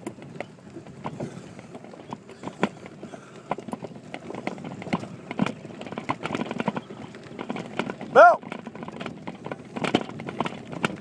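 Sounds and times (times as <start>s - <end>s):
bike rattling over bumpy ground: 0.0s - 11.0s.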